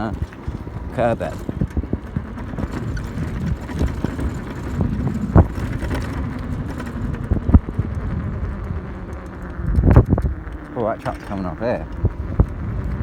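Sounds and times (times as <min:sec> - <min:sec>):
faint electric motor hum: 0:00.0 - 0:13.0
motorbike riding rumble: 0:00.0 - 0:13.0.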